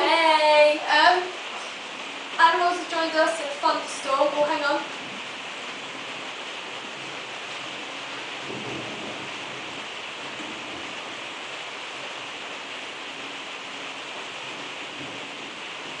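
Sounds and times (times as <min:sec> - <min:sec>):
heavy rain downpour: 0:00.0 - 0:16.0
faint rumble of thunder: 0:02.8 - 0:16.0.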